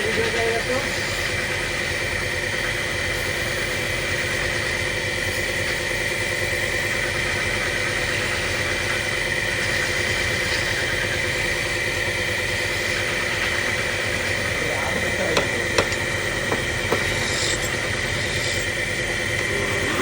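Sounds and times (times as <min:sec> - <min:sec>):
lathe motor whine: 0:00.0 - 0:20.0.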